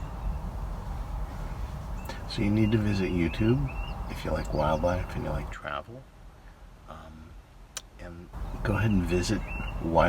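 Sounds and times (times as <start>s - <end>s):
faint low background rumble: 0.0s - 10.0s.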